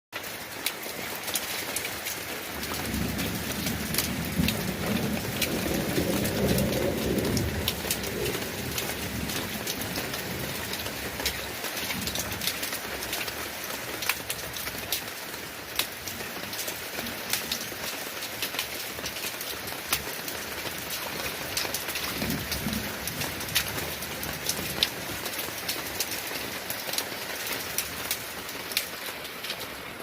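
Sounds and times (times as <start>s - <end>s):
rain falling: 0.2s - 30.0s.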